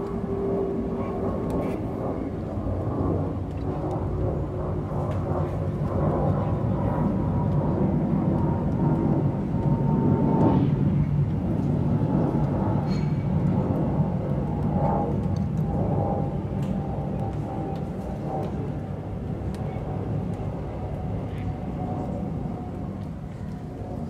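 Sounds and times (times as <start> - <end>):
jet airliner passing overhead: 0.0 - 24.0.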